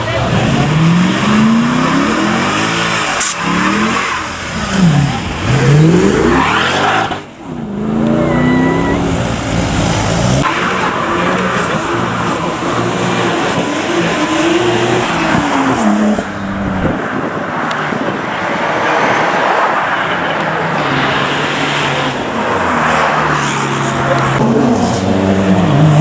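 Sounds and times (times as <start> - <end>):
car engines revving and accelerating: 0.0 - 26.0
exhaust and road noise: 0.0 - 26.0.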